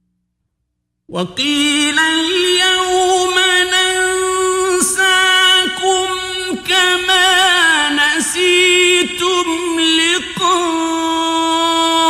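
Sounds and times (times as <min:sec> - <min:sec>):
man chanting melodically: 0:01.1 - 0:12.0.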